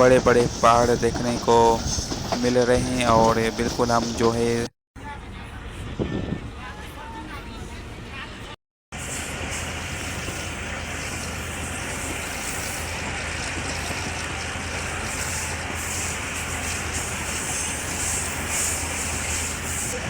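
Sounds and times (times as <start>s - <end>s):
train carriage rumbling on track: 0.0s - 20.0s.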